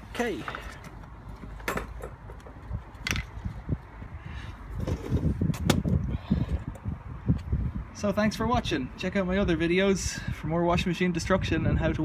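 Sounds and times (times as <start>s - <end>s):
wind buffeting microphone: 1.1s - 12.0s.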